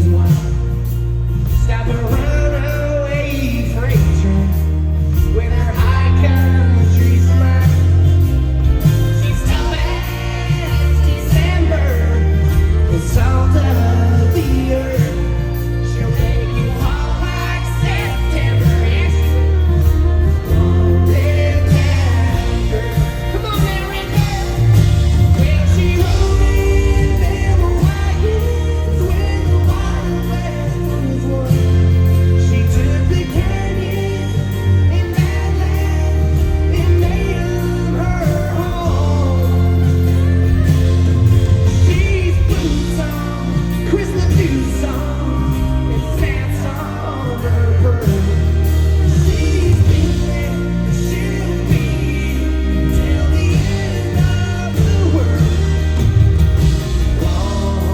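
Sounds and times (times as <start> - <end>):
amplified country band: 0.0 - 57.9
bass line: 0.0 - 57.9
person singing: 0.0 - 57.9.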